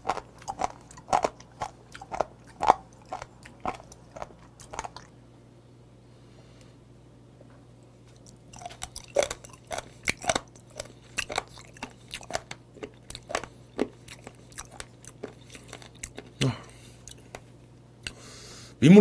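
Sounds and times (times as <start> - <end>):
crunchy wet chewing: 0.0 - 5.2, 8.0 - 18.2.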